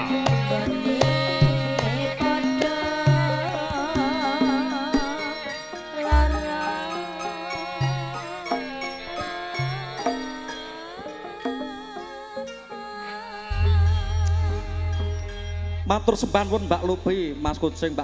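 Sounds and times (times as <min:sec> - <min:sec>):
ringing metallophone notes: 0:02.3 - 0:18.0.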